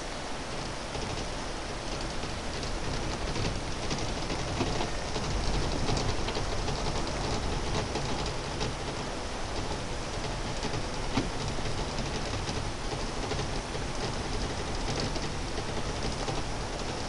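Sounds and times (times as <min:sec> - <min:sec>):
wind gusting on microphone: 0:00.0 - 0:17.0.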